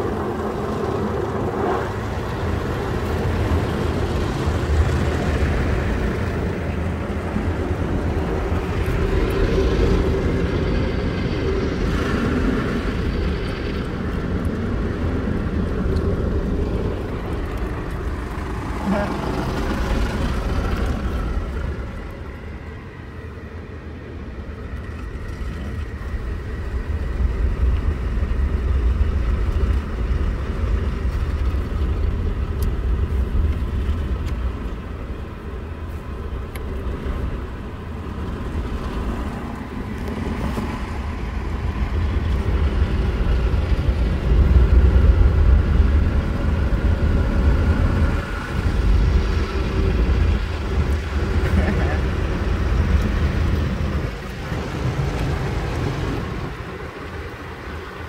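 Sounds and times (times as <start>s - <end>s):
car wash machinery rumble: 0.0s - 58.0s.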